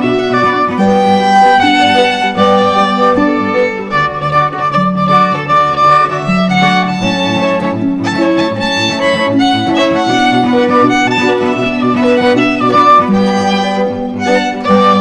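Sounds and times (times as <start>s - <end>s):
melody of held notes: 0.0s - 15.0s.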